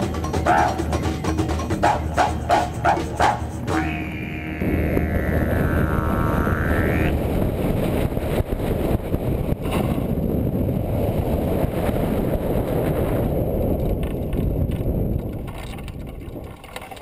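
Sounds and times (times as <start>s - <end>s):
wind rushing over microphone: 1.8s - 17.0s.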